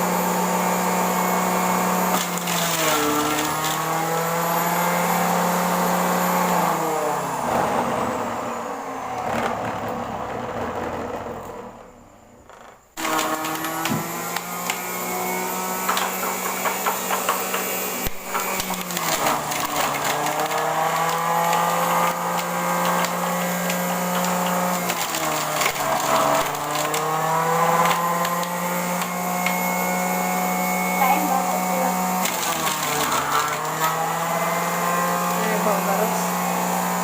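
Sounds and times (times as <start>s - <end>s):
blender motor humming: 0.0s - 37.0s.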